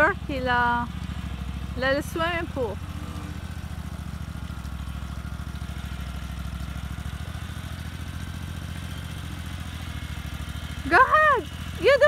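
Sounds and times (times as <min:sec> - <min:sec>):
backhoe engine chugging: 0:00.0 - 0:12.0.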